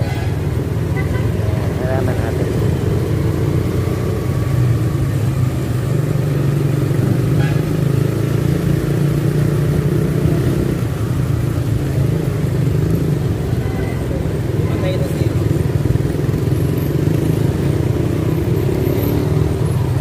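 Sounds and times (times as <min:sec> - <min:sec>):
road and traffic noise: 0:00.0 - 0:20.0
motorcycle engine running: 0:01.8 - 0:20.0.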